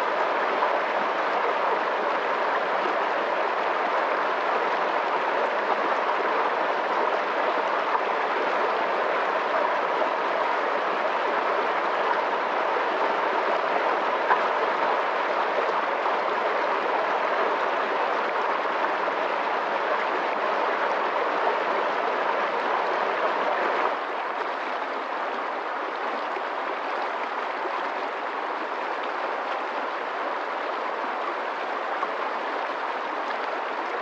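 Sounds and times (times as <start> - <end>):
fast-flowing water rushing: 0.0 - 34.0.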